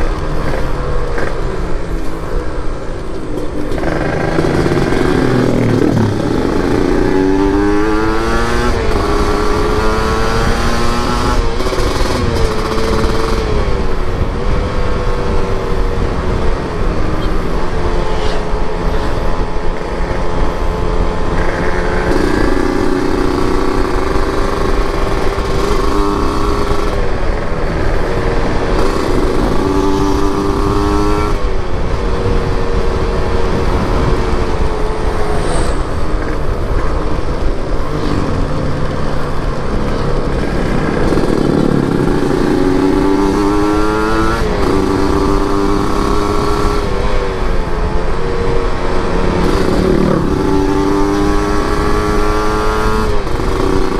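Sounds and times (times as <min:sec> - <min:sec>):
motorcycle engine revving: 0:00.0 - 0:53.9
wind and road noise: 0:00.0 - 0:53.9.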